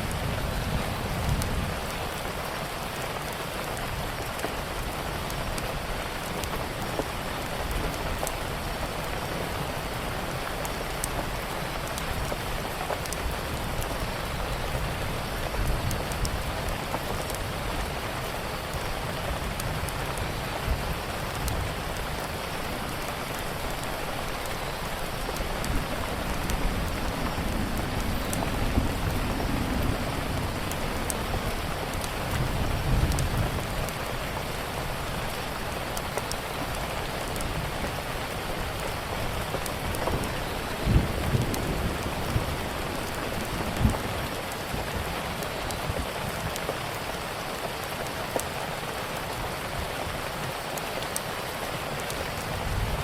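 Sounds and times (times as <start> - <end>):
steady rain: 0.0 - 53.0
wood fire crackling: 2.9 - 49.9.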